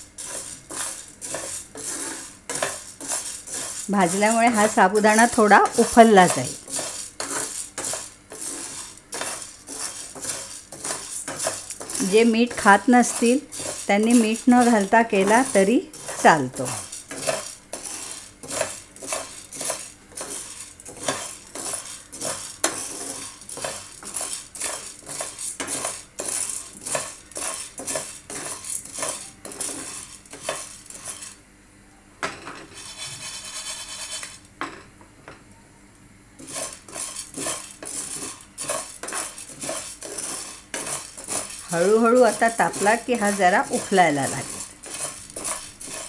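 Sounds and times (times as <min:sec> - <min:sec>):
spoon stirring pearls in a pan: 0:00.0 - 0:31.4, 0:32.7 - 0:34.4, 0:36.4 - 0:46.0.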